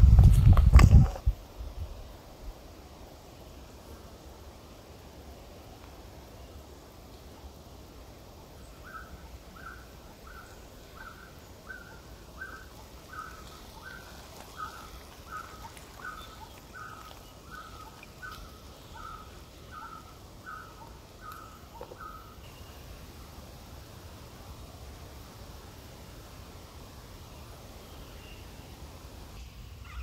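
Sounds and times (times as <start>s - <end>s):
faint forest hiss: 0.0s - 30.0s.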